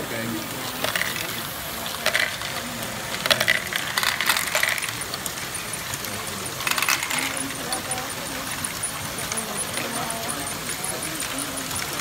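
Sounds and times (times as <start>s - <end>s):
steady background hum: 0.0s - 12.0s
plastic balls clattering and clicking: 0.2s - 12.0s.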